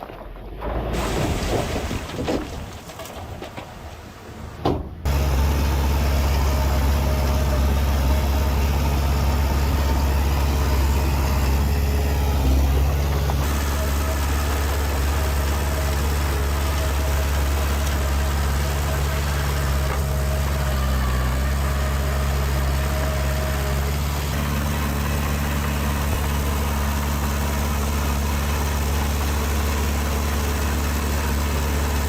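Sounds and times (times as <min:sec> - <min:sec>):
heavy diesel engine running: 0:02.9 - 0:32.0.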